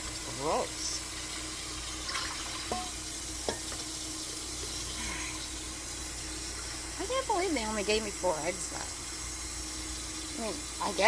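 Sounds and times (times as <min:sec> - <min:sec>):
water running from a tap: 0:00.0 - 0:11.0.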